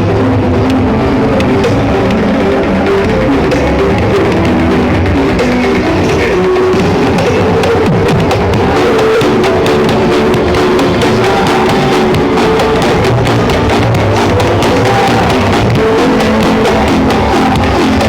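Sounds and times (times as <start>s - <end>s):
loud music with drum beat: 0.0s - 18.0s.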